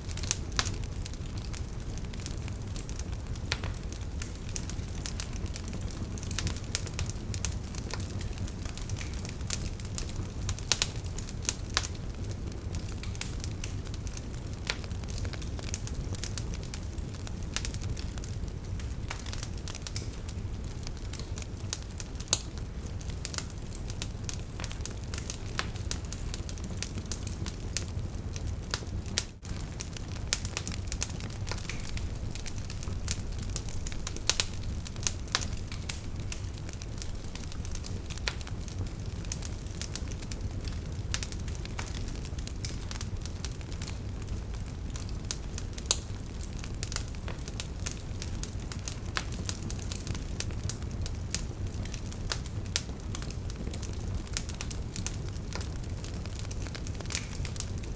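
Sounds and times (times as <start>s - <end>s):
campfire crackling and popping: 0.0s - 57.9s
low rush of flame: 0.0s - 57.9s.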